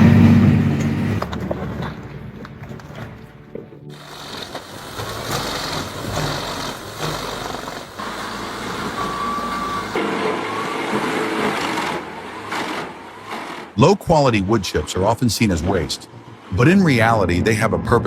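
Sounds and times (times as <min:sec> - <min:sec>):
diesel engine: 0:00.0 - 0:18.0
mechanical working noise: 0:00.0 - 0:18.0
steady machine whine: 0:00.0 - 0:18.0.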